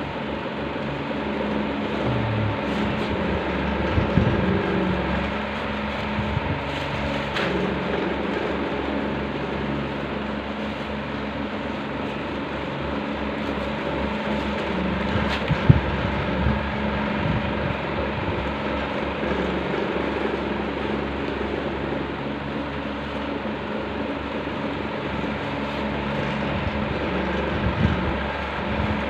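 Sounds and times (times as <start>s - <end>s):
machine hum and rushing: 0.0s - 29.0s.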